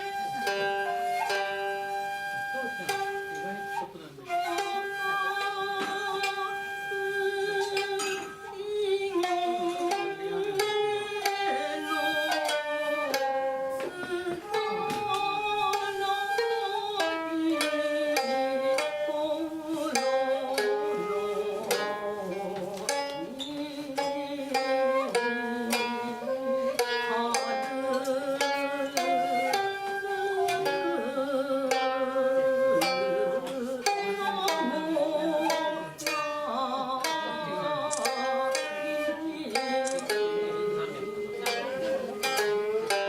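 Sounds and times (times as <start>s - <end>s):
bamboo flute melody: 0.0s - 43.0s
plucked zither notes: 0.0s - 43.0s.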